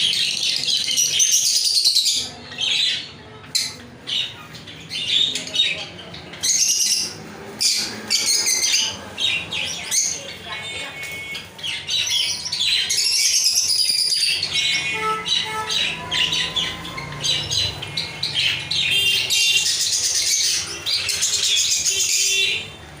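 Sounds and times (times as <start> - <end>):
lovebirds chirping and squawking: 0.0 - 23.0.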